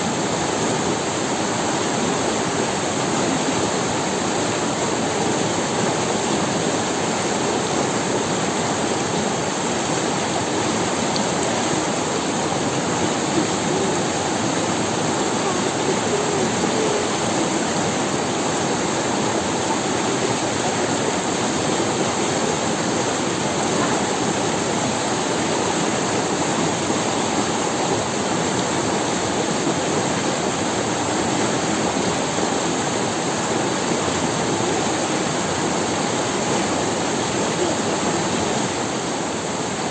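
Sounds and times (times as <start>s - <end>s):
river running over stones: 0.0s - 39.9s.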